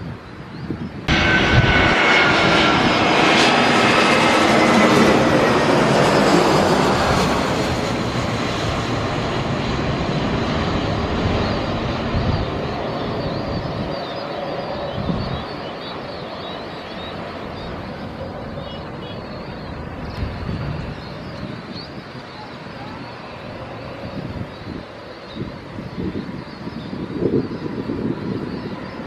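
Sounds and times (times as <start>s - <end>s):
jet airliner passing: 0.0s - 29.0s.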